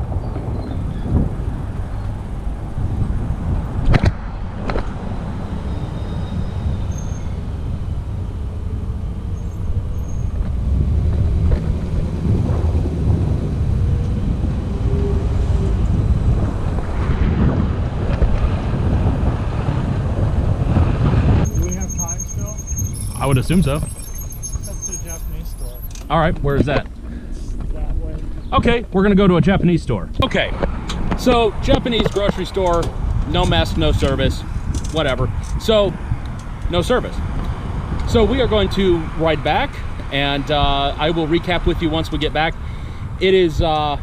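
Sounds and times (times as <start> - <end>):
road noise: 0.0 - 44.0
wind rumbling on microphone: 0.0 - 44.0.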